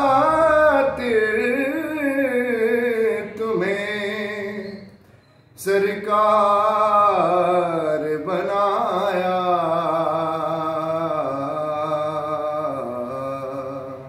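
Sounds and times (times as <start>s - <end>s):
man singing unaccompanied: 0.0s - 4.9s, 5.6s - 14.0s.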